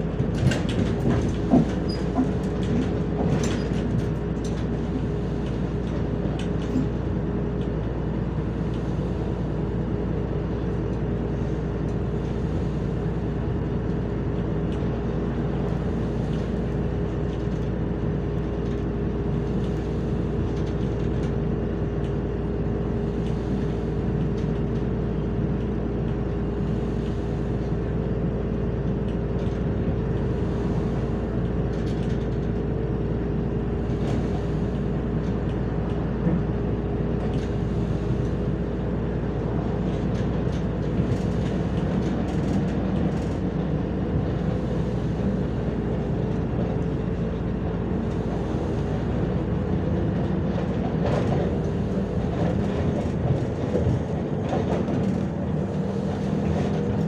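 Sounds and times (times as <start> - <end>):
bus engine drone: 0.0 - 57.0
road rumble: 0.0 - 57.0.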